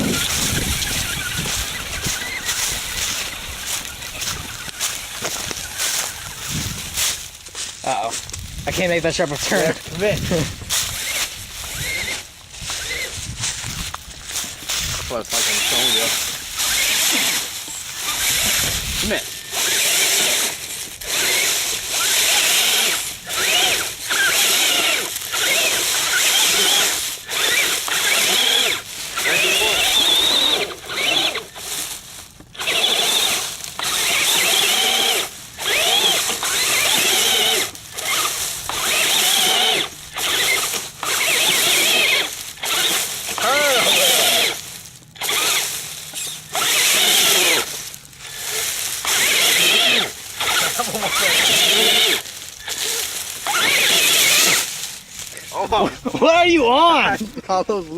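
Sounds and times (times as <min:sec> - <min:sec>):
electric motor whining in bursts: 0:00.0 - 0:57.2.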